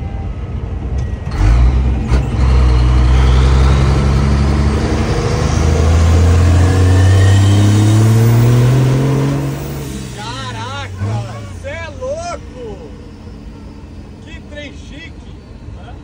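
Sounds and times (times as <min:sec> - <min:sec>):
truck diesel engine accelerating: 0:00.0 - 0:16.0.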